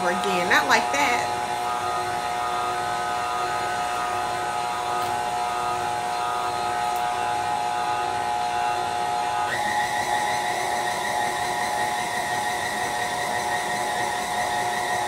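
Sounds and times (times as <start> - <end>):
stand mixer motor whining: 0.0 - 15.0.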